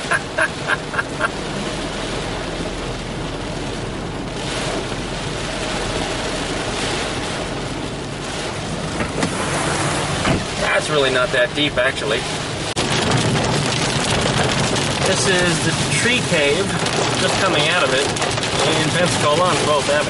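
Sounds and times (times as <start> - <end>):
water rushing and splashing: 0.0 - 20.0.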